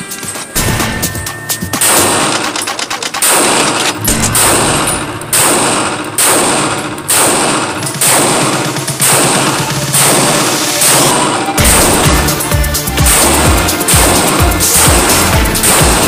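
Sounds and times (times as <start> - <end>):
pistol shots echoing indoors: 0.5 - 16.0.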